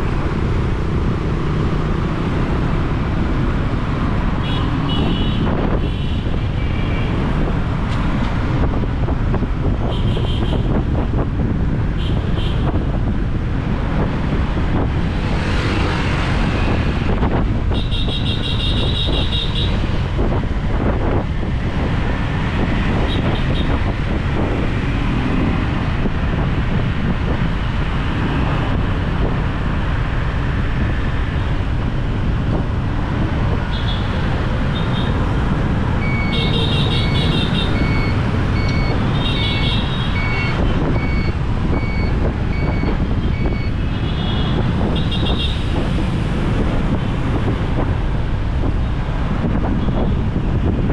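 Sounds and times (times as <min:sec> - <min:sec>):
motorbike engine and wind rumble: 0:00.0 - 0:50.9.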